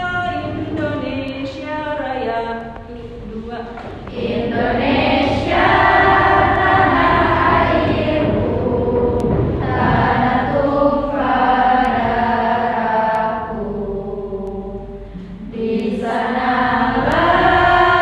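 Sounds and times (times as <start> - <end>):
students chanting in unison: 3.2 - 18.0.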